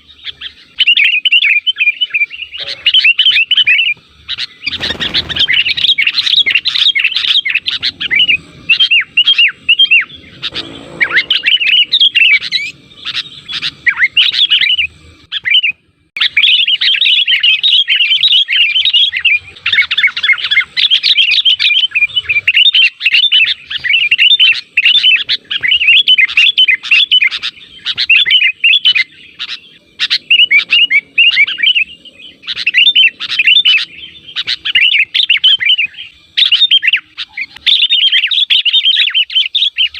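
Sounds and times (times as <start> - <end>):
bulbuls chattering calls: 0.0 - 39.9.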